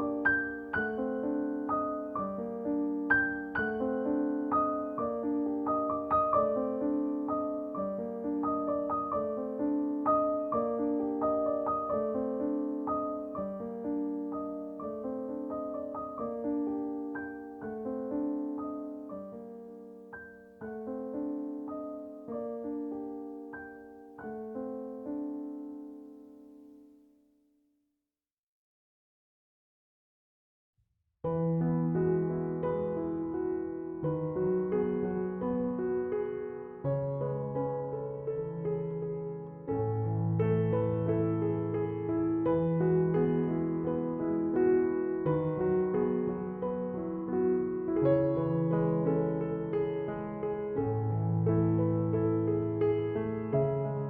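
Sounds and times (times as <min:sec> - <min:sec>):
solo piano music: 0:00.0 - 0:27.2, 0:31.2 - 0:54.0.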